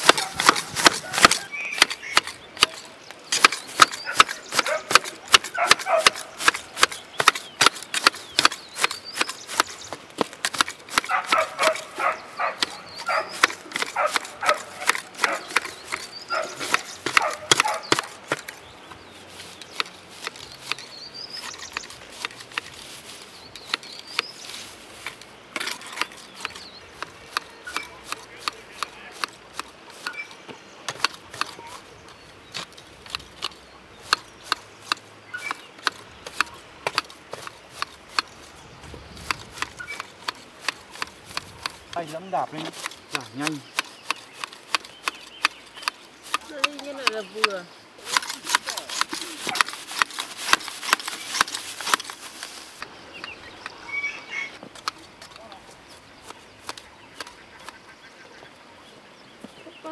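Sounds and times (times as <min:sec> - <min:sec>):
grass shears snipping: 0:00.0 - 0:53.8, 0:54.6 - 0:58.0.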